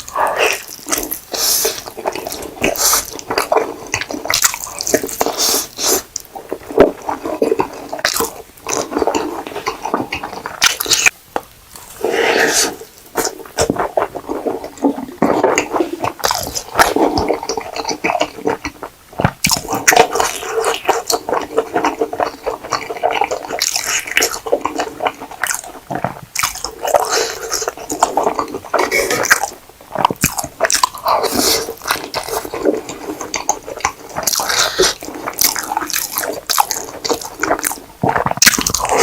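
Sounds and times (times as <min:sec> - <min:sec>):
noodles slurped and chewed: 0:00.0 - 0:11.2, 0:11.8 - 0:39.0.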